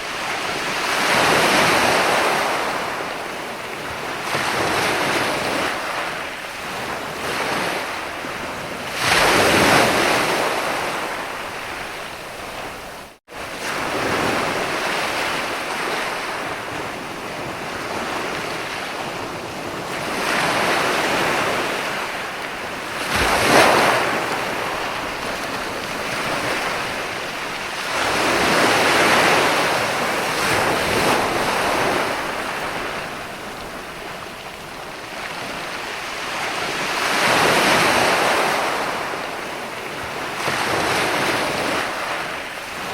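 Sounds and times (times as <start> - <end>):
ocean waves breaking: 0.0 - 42.9.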